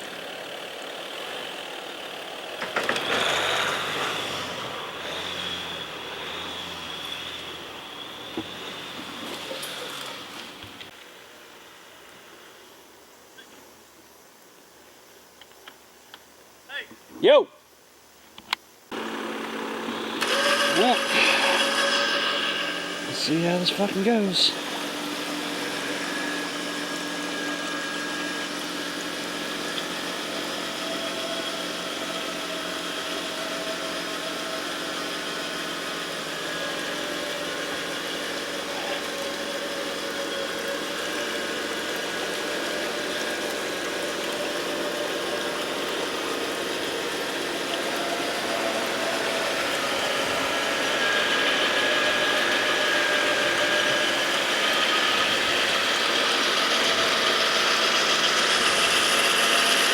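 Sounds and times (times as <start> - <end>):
motor whining: 2.5 - 11.0, 18.9 - 59.9.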